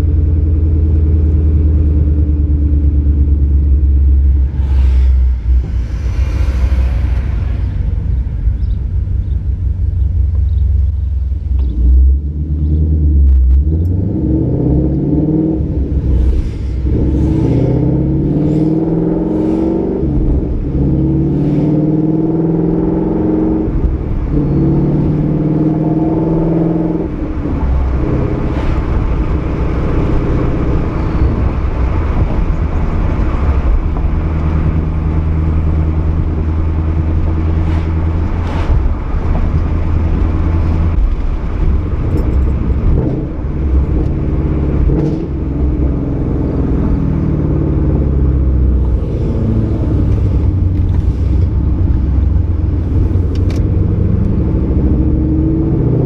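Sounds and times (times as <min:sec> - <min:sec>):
deep exhaust rumble: 0:00.0 - 0:56.0.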